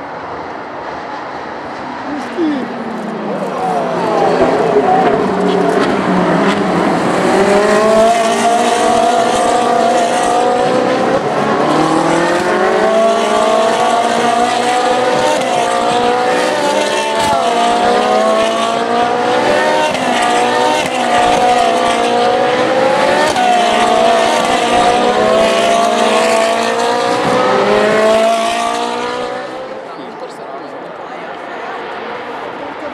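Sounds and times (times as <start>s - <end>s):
race cars accelerating: 0.0s - 32.9s.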